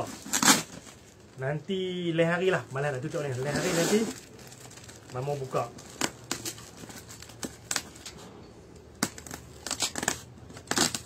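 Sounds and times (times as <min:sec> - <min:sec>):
packing tape crackling and scraping: 0:00.0 - 0:11.0.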